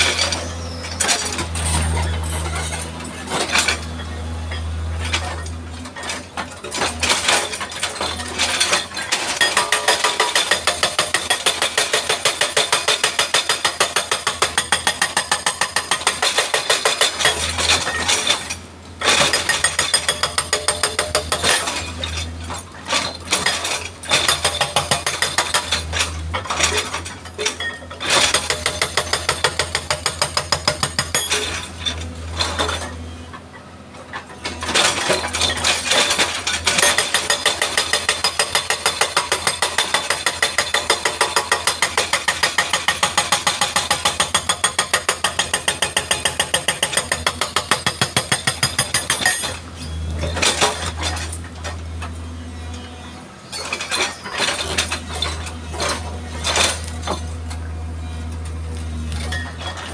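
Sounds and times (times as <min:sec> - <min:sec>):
hydraulic rock breaker hammering: 0:00.0 - 0:33.0, 0:34.2 - 0:57.7.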